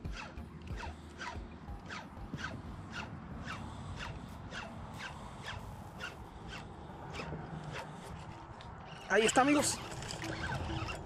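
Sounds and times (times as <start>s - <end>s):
fishing reel rasping: 0.0s - 11.0s.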